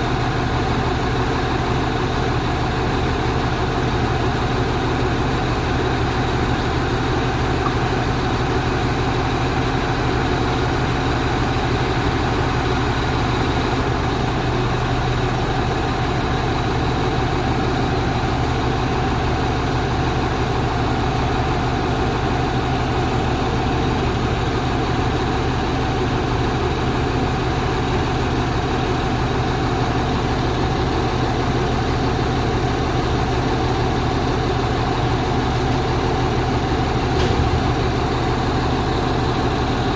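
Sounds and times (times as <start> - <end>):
truck engine running steadily: 0.0 - 39.9.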